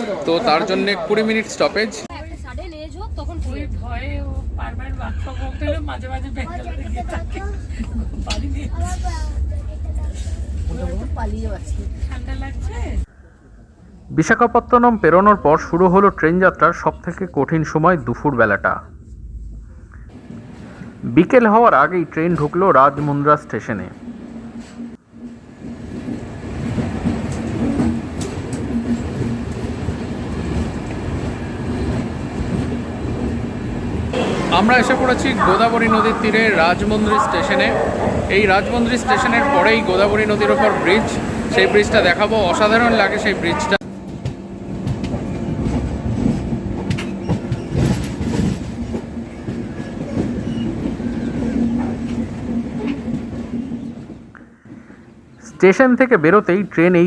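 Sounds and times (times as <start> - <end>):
train rumble on rails: 0.0 - 55.6.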